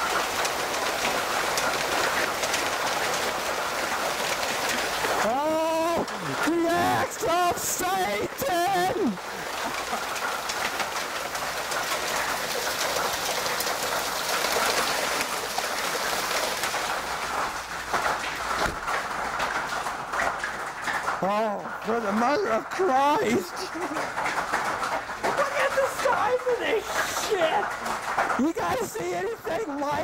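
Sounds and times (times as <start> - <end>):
hail and heavy rain pelting: 0.0 - 30.0.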